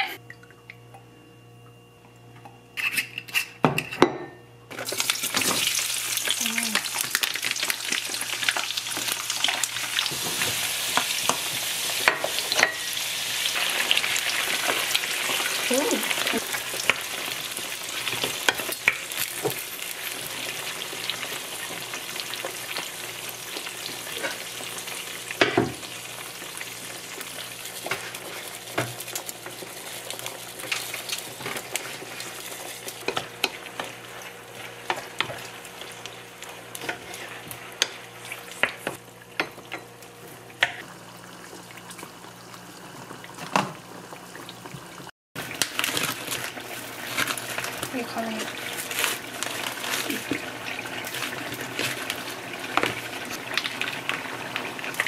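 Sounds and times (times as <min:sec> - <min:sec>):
shrimp sizzling in a frying pan: 0:04.7 - 0:55.0.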